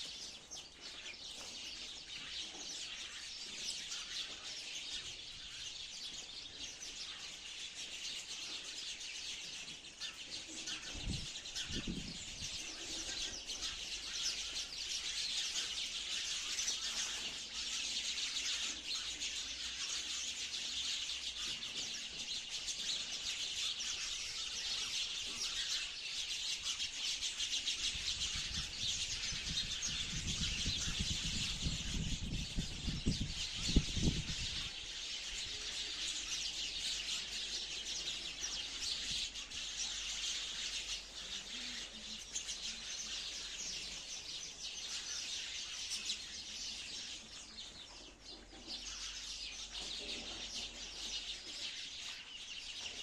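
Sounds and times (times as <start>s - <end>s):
sparrows chirping: 0.0s - 53.0s.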